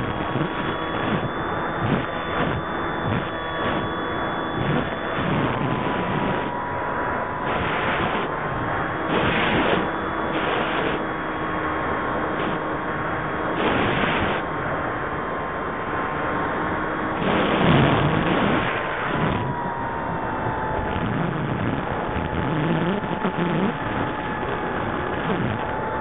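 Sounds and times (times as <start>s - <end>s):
wind noise: 0.0s - 14.7s, 17.2s - 26.0s
electric motor and propeller whine: 0.0s - 26.0s.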